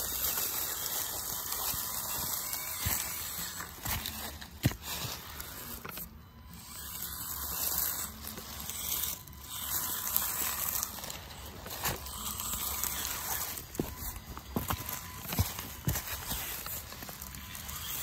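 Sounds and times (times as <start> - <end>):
small electric motor whirring: 0.0 - 18.0
tyres crunching through dry leaves: 0.0 - 18.0.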